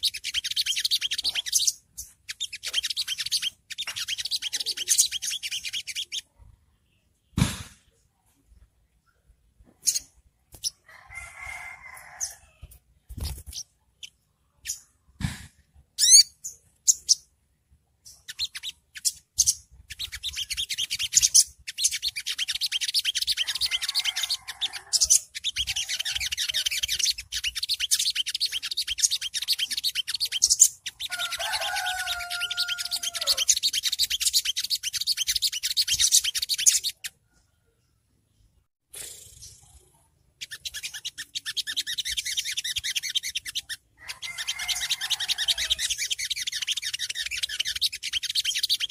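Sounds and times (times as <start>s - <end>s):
high-pitched bird chattering song: 0.0s - 7.4s, 8.6s - 10.9s, 12.2s - 37.5s, 39.0s - 48.9s
bird chirping and trilling: 0.0s - 48.9s.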